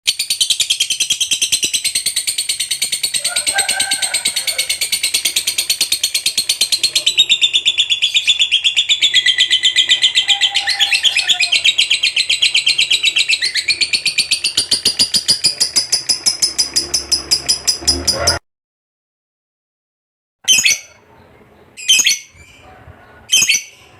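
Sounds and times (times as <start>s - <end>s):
lovebird chattering trill: 0.1s - 18.4s, 20.5s - 21.0s, 21.8s - 22.7s, 23.3s - 23.9s.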